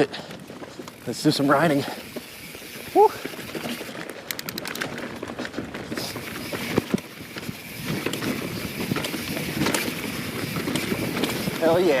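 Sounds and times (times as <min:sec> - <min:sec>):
bike rattling and knocking: 0:00.0 - 0:12.0
bike tyres on dirt trail: 0:00.0 - 0:12.0.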